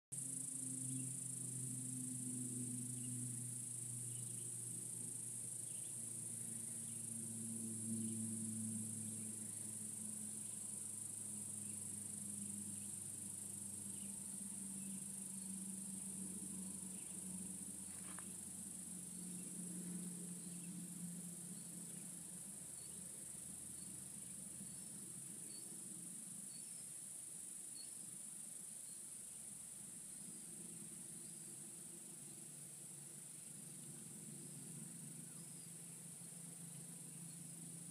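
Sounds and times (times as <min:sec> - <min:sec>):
faint low hum: 0:00.1 - 0:37.9
insects droning: 0:00.2 - 0:37.9.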